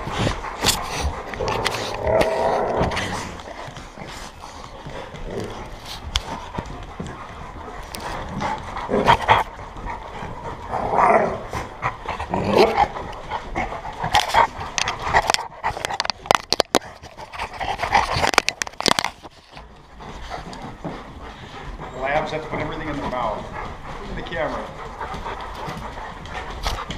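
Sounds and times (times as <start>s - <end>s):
dogs snuffling and whining: 0.0s - 26.9s.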